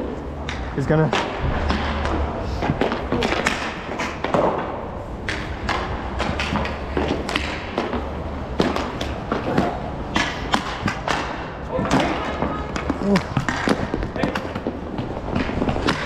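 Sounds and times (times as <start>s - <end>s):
hockey sticks and puck clacking: 0.4s - 16.0s
inline skates rolling: 1.2s - 16.0s.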